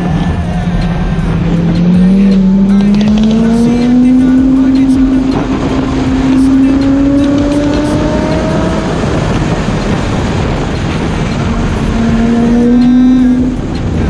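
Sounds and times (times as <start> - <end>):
car engine pulling hard: 0.0 - 14.0
wind and road noise: 0.0 - 14.0.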